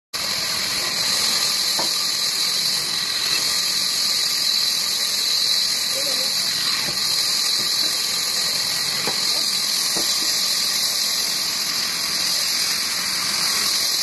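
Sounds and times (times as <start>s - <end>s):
band saw cutting wood: 0.2s - 14.0s.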